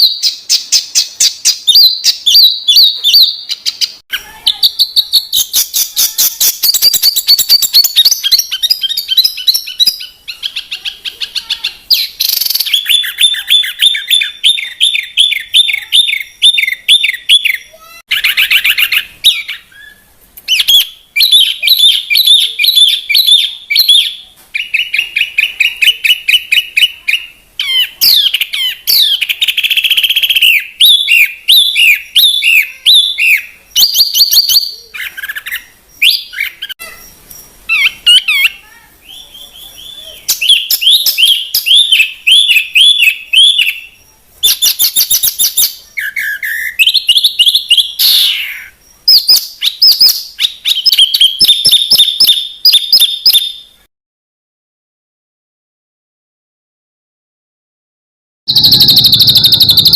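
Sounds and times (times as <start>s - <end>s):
songbird singing: 0.0s - 53.9s, 58.5s - 59.9s.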